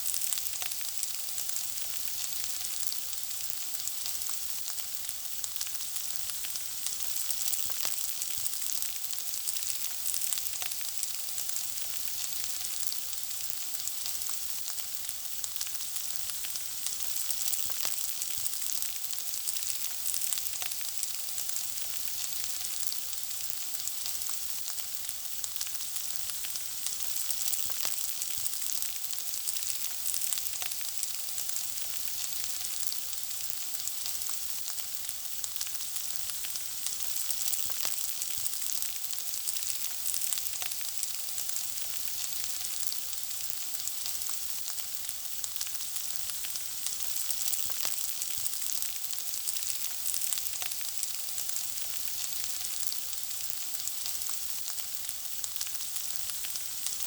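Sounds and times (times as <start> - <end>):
food frying in hot oil: 0.0 - 57.0.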